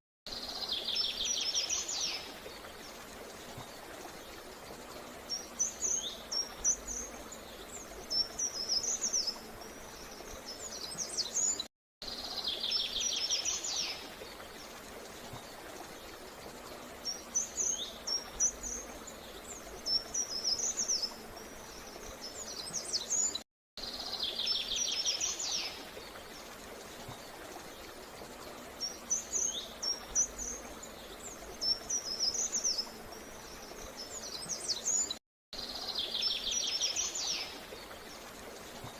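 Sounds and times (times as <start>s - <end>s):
songbirds singing: 0.3s - 38.9s
steady outdoor hiss: 0.3s - 38.9s.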